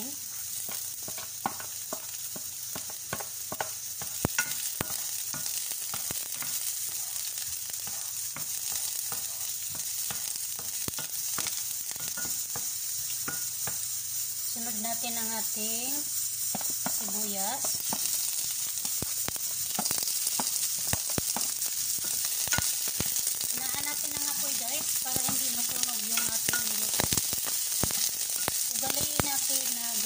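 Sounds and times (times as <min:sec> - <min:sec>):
oil crackling and popping: 0:00.0 - 0:14.4, 0:16.2 - 0:30.0
meat sizzling in oil: 0:00.0 - 0:30.0
wooden spatula stirring in pan: 0:00.4 - 0:13.8, 0:16.5 - 0:30.0.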